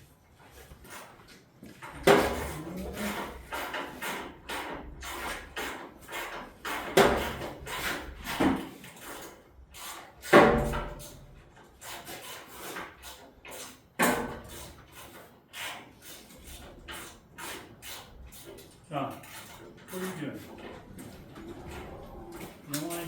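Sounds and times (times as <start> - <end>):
hand tools clattering and scraping: 0.3 - 23.0.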